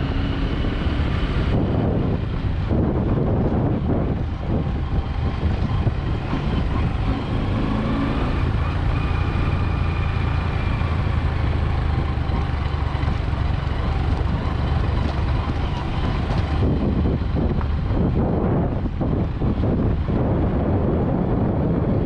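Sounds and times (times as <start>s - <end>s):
vehicle driving on dirt road: 0.0s - 22.0s.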